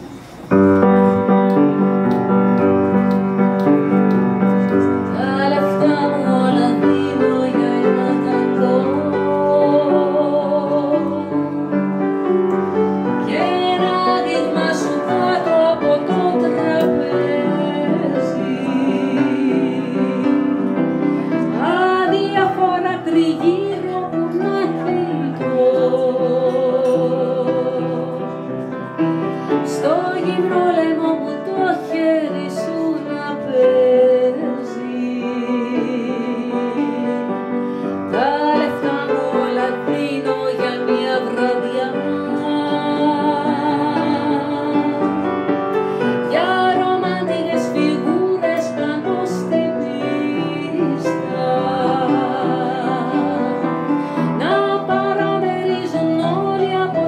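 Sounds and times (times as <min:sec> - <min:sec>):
piano accompaniment: 0:00.0 - 0:57.0
woman singing with vibrato: 0:00.0 - 0:57.0.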